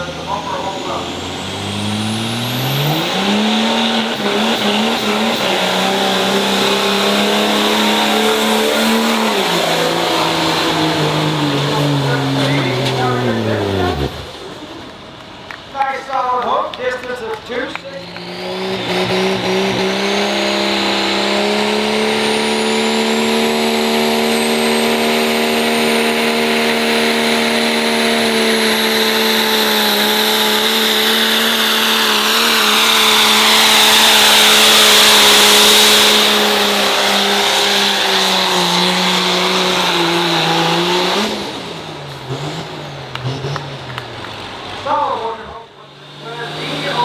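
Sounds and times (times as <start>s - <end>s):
truck engine at high revs: 0.0s - 47.0s.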